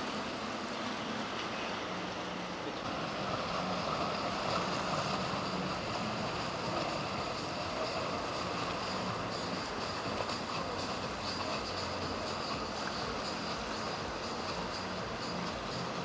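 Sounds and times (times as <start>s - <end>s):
motorboat engines droning: 0.0s - 16.0s
waves and wake water: 0.0s - 16.0s.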